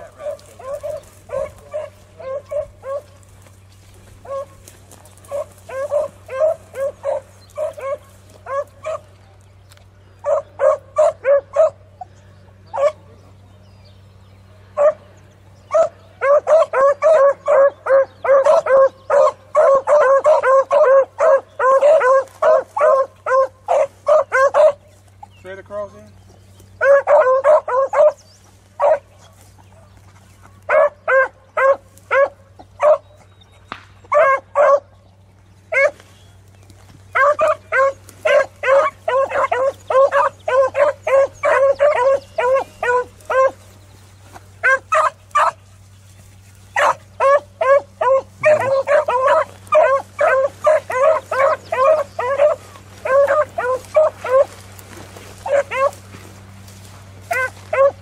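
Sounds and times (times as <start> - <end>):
beagles baying: 0.0 - 58.0.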